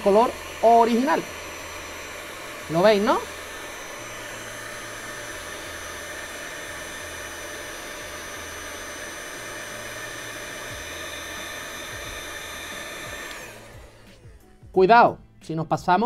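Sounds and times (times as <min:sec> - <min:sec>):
heat gun fan whine: 0:00.0 - 0:15.1.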